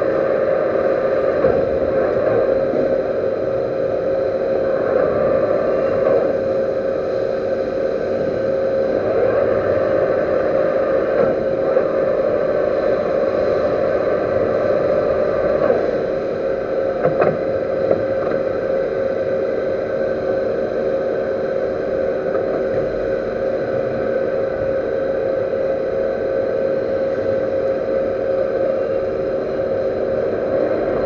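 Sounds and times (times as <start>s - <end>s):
metal lathe humming and whining: 0.0s - 31.0s.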